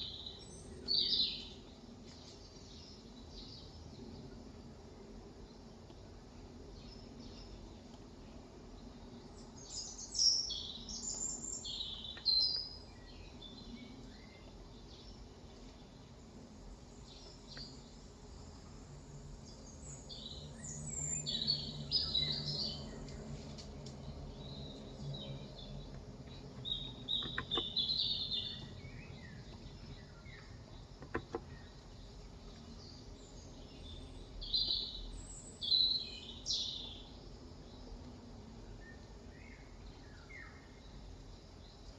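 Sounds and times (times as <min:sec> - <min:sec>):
faint background noise: 0:00.0 - 0:41.9
small birds chirping: 0:00.0 - 0:41.9.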